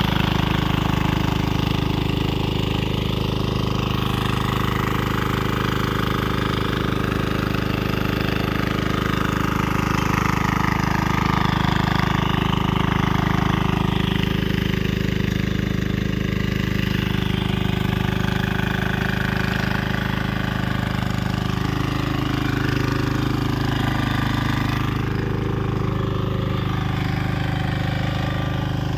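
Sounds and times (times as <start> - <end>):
power tiller diesel engine running: 0.0 - 28.9.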